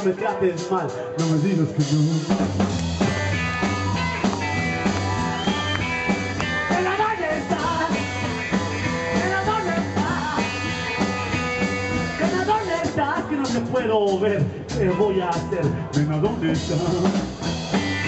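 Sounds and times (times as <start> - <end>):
drums: 0.0 - 18.0
upright bass line: 0.0 - 18.0
electric guitar: 1.0 - 13.7, 14.4 - 18.0.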